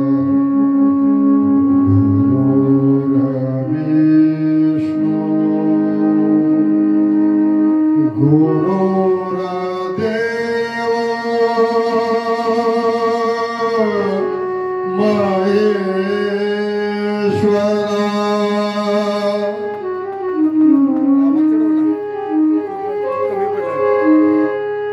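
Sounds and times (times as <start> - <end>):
man singing devotional song: 0.0 - 24.7
instrumental accompaniment: 0.0 - 24.9.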